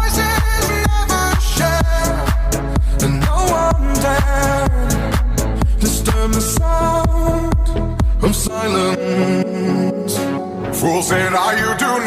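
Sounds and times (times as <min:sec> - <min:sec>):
dance music with heavy bass: 0:00.0 - 0:12.0.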